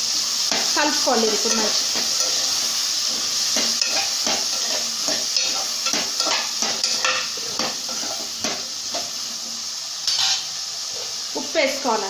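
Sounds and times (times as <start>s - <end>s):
chickpeas sizzling in oil: 0.0s - 12.0s
spoon scraping a pan: 0.4s - 11.2s.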